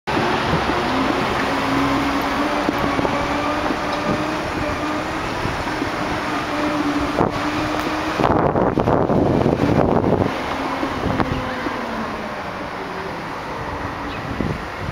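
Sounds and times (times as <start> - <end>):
wind on microphone: 0.1 - 11.9, 13.6 - 14.9.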